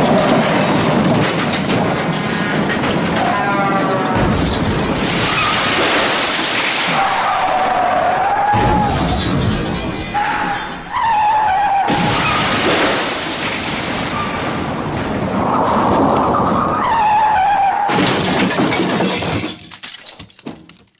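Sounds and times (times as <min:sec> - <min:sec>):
crashing and shattering: 0:00.0 - 0:20.9.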